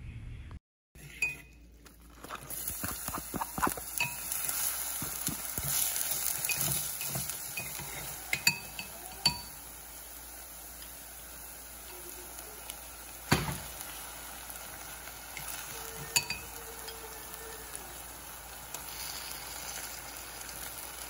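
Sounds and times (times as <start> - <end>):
food sizzling in hot oil: 2.1 - 21.0.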